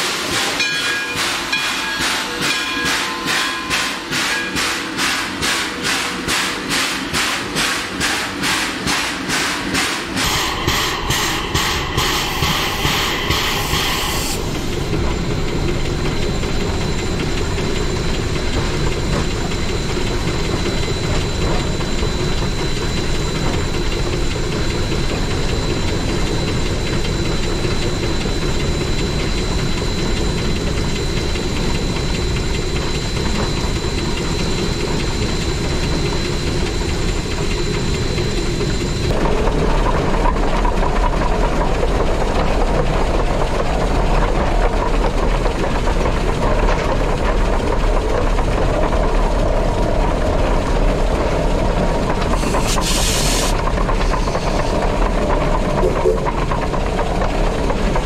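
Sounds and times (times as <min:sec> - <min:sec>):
locomotive exhaust beats: 0:00.0 - 0:58.0
steam locomotive rumble: 0:00.0 - 0:58.0.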